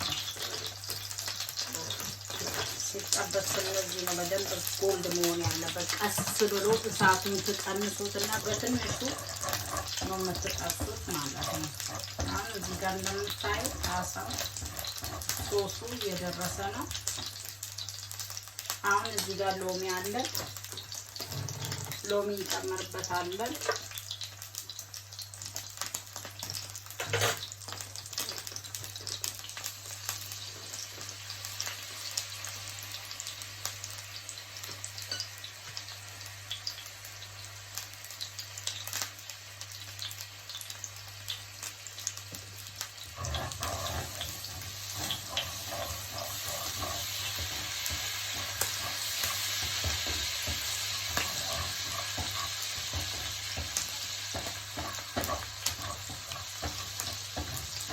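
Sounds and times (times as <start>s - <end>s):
fish sizzling in a pan: 0.0s - 57.9s.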